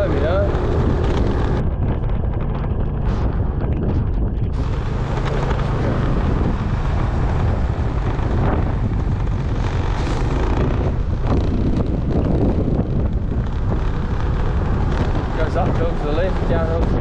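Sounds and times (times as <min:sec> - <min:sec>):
motorbike engine running: 0:00.0 - 0:17.0
wind rushing on microphone: 0:00.0 - 0:17.0.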